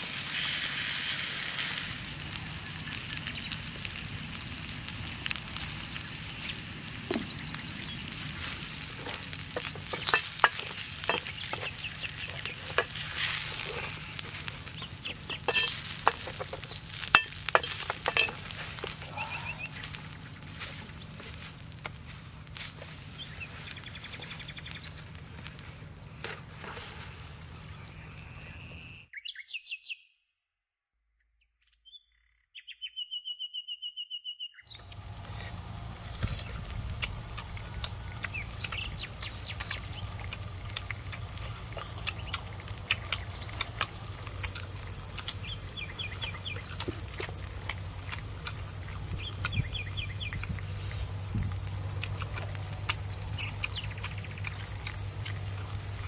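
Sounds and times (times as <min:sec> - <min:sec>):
meat sizzling on hot rock: 0:00.0 - 0:28.9, 0:34.7 - 0:56.0
crackles and pops: 0:00.0 - 0:29.0, 0:34.7 - 0:56.0
bird calls chirping: 0:02.4 - 0:04.0, 0:05.7 - 0:21.3, 0:22.8 - 0:25.2, 0:27.3 - 0:30.2, 0:31.6 - 0:55.7.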